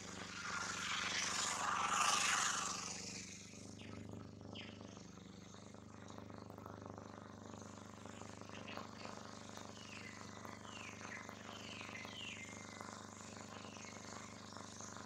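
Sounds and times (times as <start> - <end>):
low engine hum: 0.0 - 14.9.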